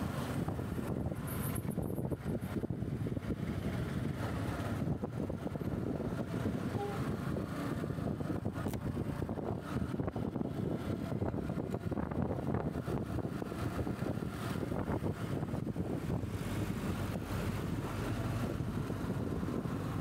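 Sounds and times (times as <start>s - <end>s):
road and vehicle noise: 0.0s - 20.0s
wind buffeting microphone: 0.0s - 20.0s.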